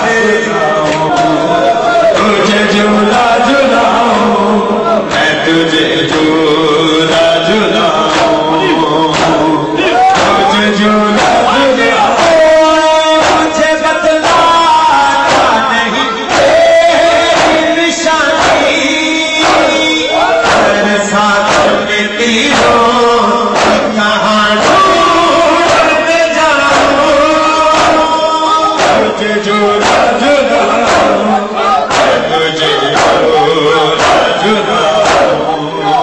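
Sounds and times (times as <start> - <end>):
man singing a lament: 0.0 - 36.0
men's chorus singing: 0.0 - 36.0
steady rhythmic beat: 0.0 - 36.0.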